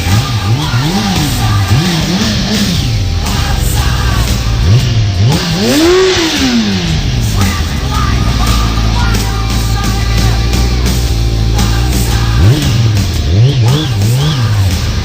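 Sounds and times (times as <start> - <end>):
background music: 0.0 - 15.0
racing motorcycle engine revving: 0.0 - 15.0.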